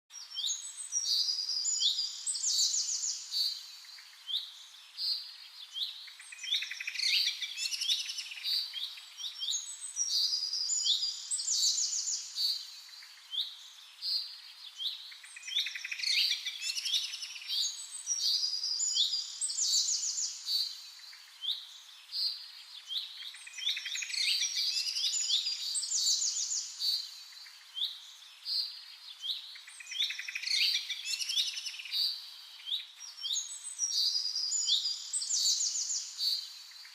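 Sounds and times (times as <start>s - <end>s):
faint steady hiss: 0.1s - 36.9s
songbirds chirping and singing: 0.1s - 36.9s.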